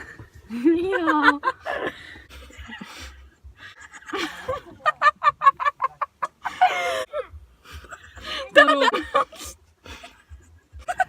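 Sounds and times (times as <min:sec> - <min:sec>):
person cackling: 0:00.6 - 0:11.0.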